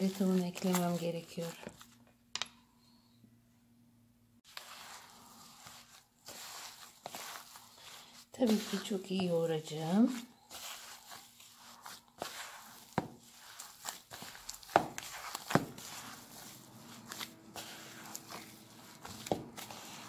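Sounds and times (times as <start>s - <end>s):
glove rustling: 0.0s - 2.0s, 4.5s - 20.0s
hand kneading minced meat: 0.0s - 2.0s, 4.4s - 20.0s.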